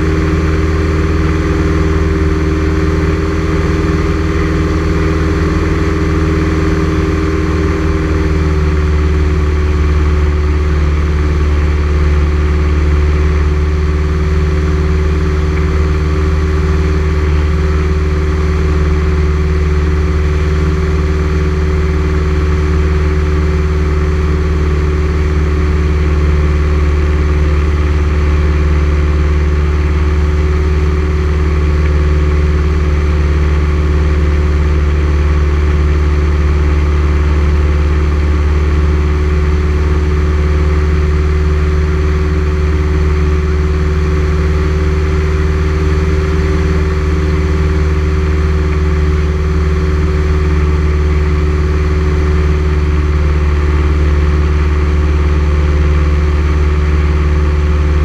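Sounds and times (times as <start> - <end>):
light aircraft engine drone: 0.0 - 58.0.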